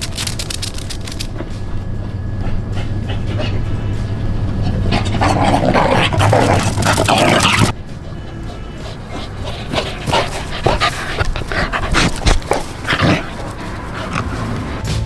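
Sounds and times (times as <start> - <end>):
dogs playing and barking: 0.0 - 15.0
steady low hum: 0.0 - 15.0.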